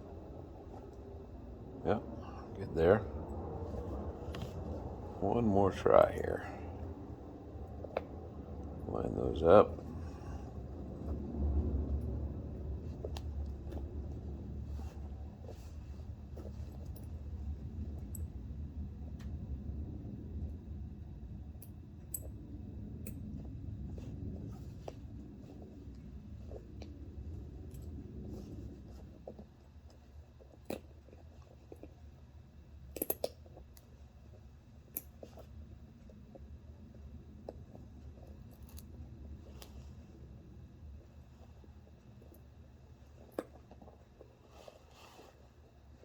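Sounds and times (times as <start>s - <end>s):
steady low hum: 0.0s - 46.0s
soft handling rustle: 2.2s - 19.4s, 23.0s - 46.0s.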